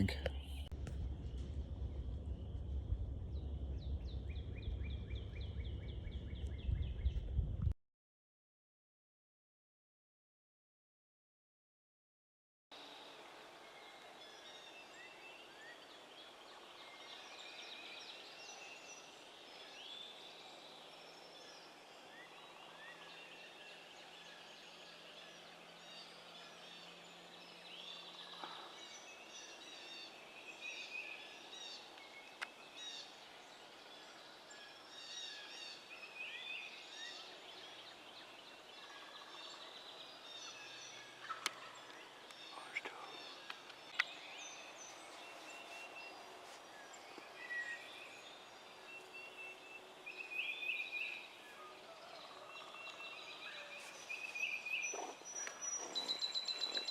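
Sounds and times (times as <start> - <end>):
songbirds chirping: 0.0 - 7.7, 12.7 - 56.9.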